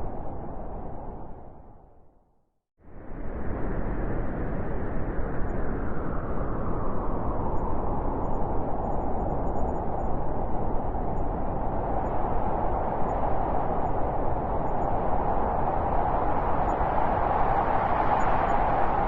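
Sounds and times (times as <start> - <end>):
blizzard wind blowing: 0.0 - 2.1, 2.8 - 19.0.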